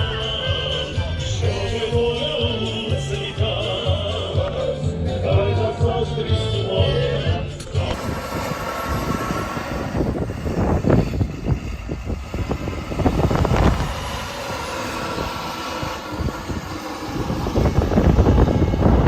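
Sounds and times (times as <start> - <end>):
heavy farm machinery engine rumble: 0.0 - 19.0.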